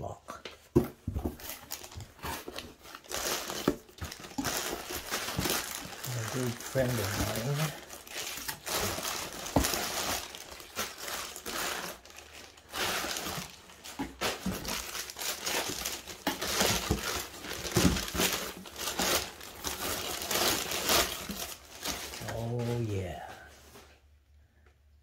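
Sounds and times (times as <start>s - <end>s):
packing paper crinkling: 1.0s - 23.9s.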